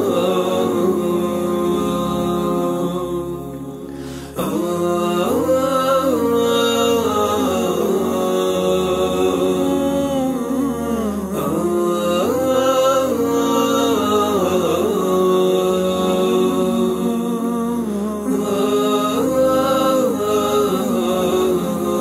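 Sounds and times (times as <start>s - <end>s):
vocal drone: 0.0s - 22.0s.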